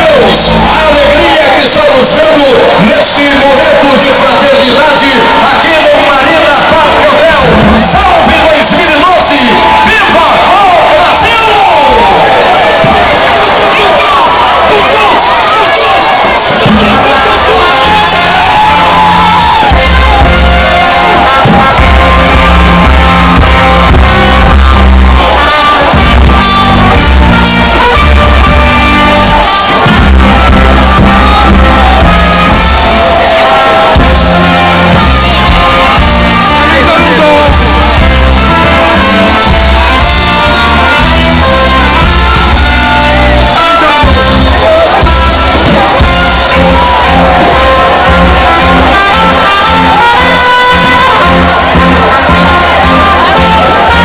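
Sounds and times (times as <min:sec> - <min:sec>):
heavy bass line: 0:00.0 - 0:54.0
live band music: 0:00.0 - 0:54.0.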